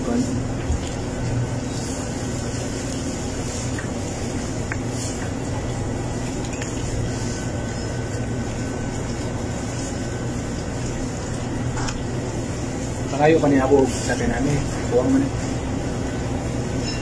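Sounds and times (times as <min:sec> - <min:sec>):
air conditioning hum and hiss: 0:00.0 - 0:17.0.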